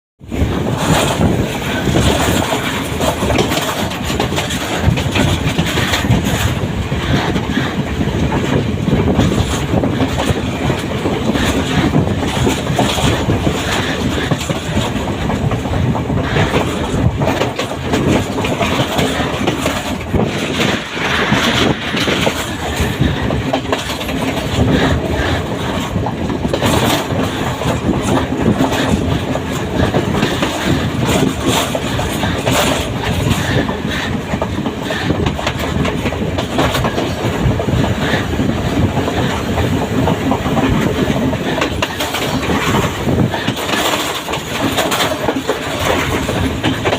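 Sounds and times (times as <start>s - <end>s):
train rumbling on rails: 0.2s - 46.9s.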